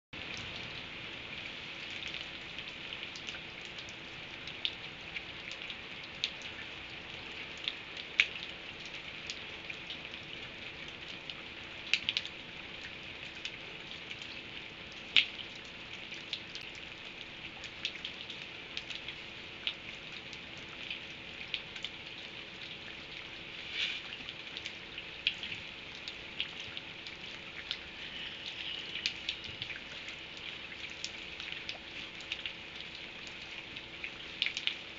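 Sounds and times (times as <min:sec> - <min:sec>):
faint steady hum: 0:00.2 - 0:34.9
rain hiss: 0:00.2 - 0:34.9.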